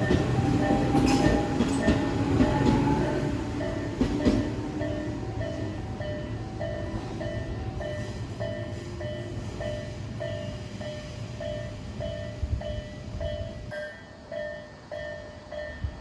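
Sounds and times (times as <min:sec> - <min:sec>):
railway crossing warning bell: 0:00.0 - 0:16.0
train rumbling: 0:00.0 - 0:16.0.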